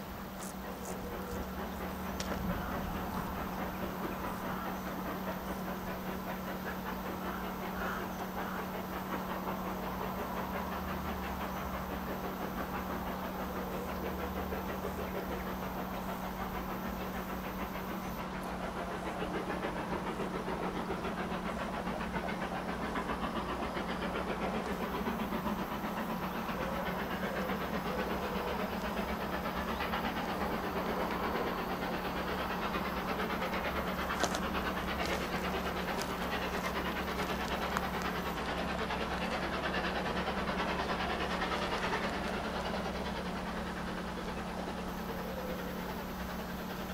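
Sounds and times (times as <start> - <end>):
distant steam locomotive exhaust: 0.0 - 46.9.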